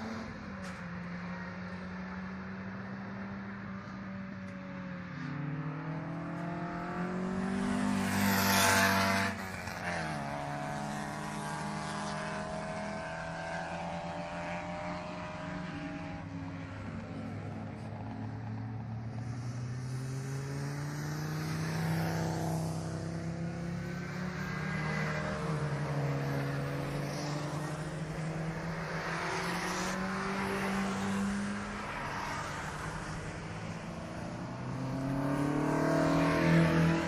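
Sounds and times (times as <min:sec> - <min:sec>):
race car engines revving: 0:00.0 - 0:37.0
race car passing loudly: 0:00.0 - 0:37.0.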